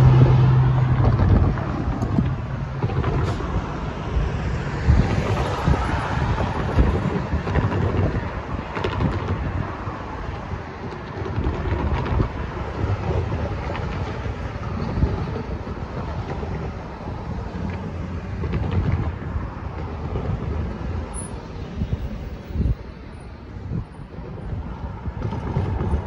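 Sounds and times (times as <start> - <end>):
cars driving past: 0.0 - 26.0
wind buffeting microphone: 0.0 - 26.0.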